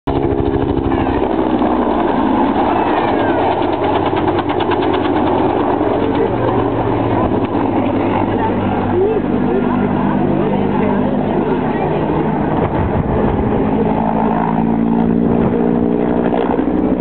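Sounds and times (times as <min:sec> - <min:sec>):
helicopter engine noise: 0:00.1 - 0:17.0
helicopter rotor chopping: 0:00.1 - 0:17.0.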